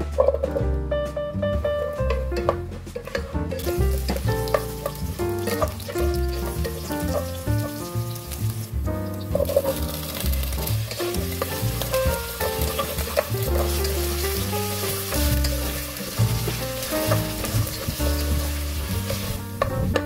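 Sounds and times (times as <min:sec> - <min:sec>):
wooden spatula scraping pot: 0:02.4 - 0:19.7
vegetables sizzling in oil: 0:02.9 - 0:19.9.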